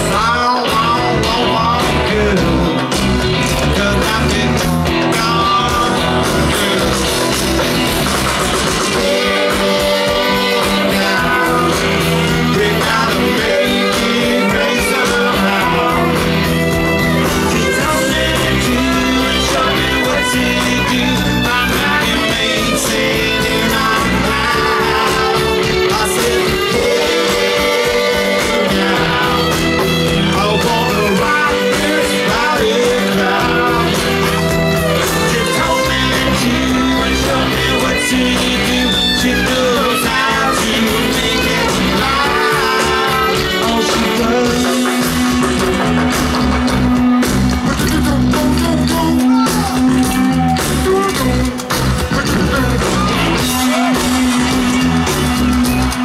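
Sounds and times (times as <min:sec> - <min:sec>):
electric guitar bending lead: 0:00.0 - 0:56.0
live rock band playing: 0:00.0 - 0:56.0.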